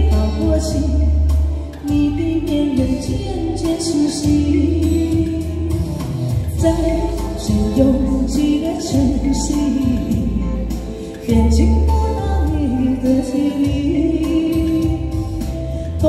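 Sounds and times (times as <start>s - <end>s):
backing track with bass and drums: 0.0s - 16.0s
woman singing pop song amplified: 0.0s - 16.0s.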